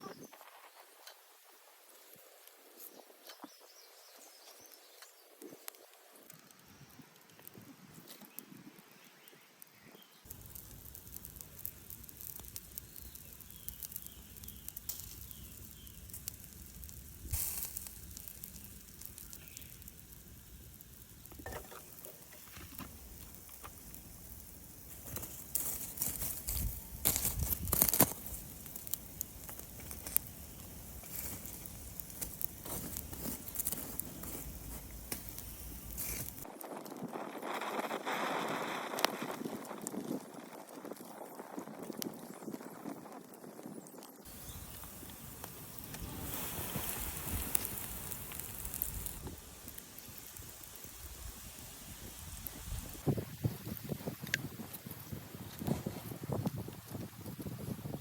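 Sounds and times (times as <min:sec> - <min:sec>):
coals crackling and popping: 0:00.1 - 0:58.0
fat sizzling on a grill: 0:00.4 - 0:43.0, 0:44.2 - 0:58.0.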